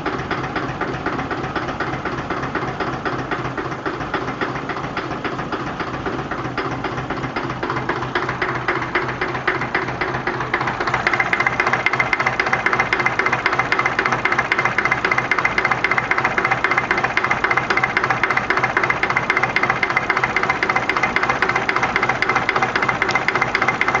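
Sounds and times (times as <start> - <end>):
engine running with clacking knock: 0.0 - 24.0.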